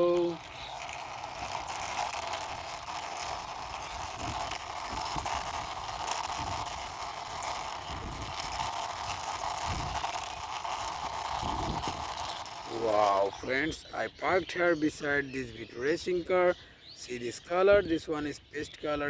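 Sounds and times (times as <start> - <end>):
toy wheels rolling: 0.0 - 16.3.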